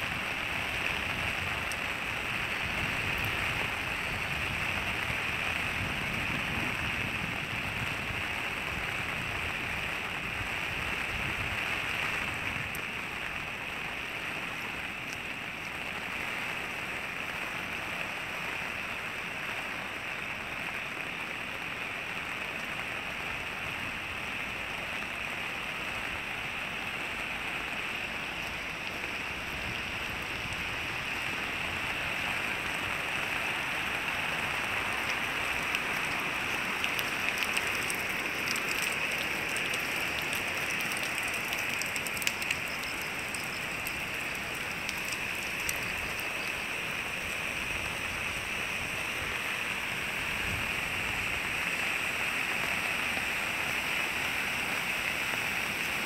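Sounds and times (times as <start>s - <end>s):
rain on wet pavement: 0.0s - 56.0s.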